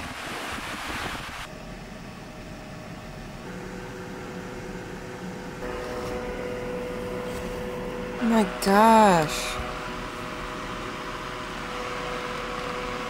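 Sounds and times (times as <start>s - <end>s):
mechanical hum in vehicle cab: 0.0s - 13.0s.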